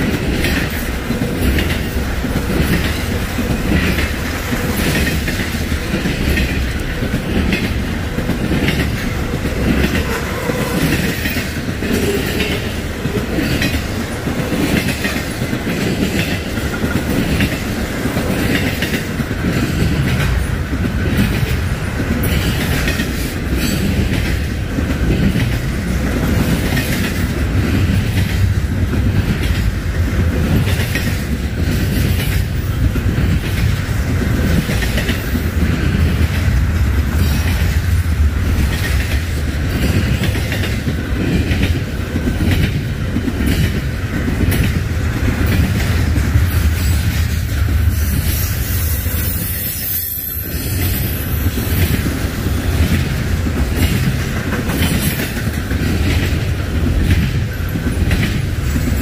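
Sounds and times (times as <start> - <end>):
wheels clacking over rail joints: 0.0 - 49.6, 50.2 - 59.0
freight train rumble: 0.0 - 59.0.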